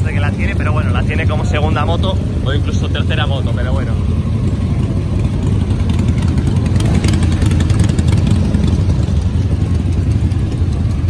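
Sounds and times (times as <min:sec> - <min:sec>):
motorcycle engines idling: 0:00.0 - 0:11.0
rapid ticking clatter: 0:00.0 - 0:11.0.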